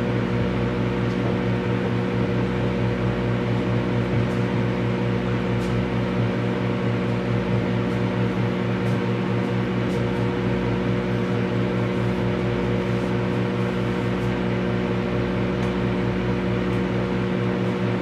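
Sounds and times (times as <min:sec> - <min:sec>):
cooling fan whir: 0:00.0 - 0:18.0
microwave oven hum: 0:00.0 - 0:18.0.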